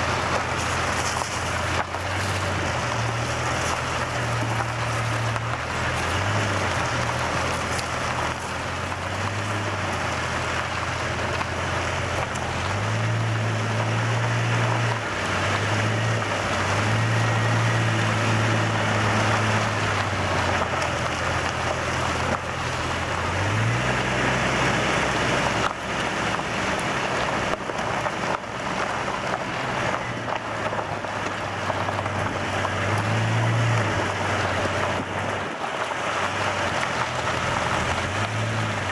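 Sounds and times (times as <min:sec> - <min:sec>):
car engine humming: 0:00.0 - 0:38.9
tyres rolling on dirt track: 0:00.0 - 0:38.9.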